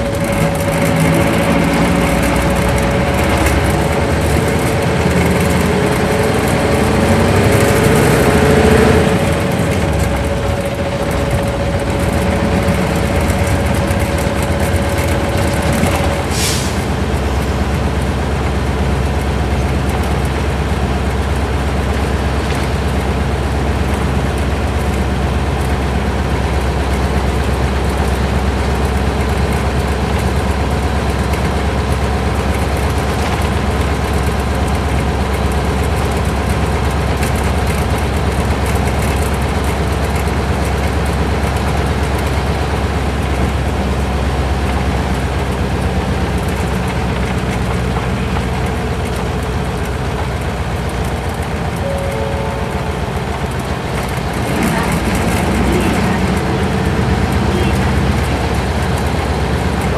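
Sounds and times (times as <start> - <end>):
bus diesel engine revving: 0.0 - 59.9.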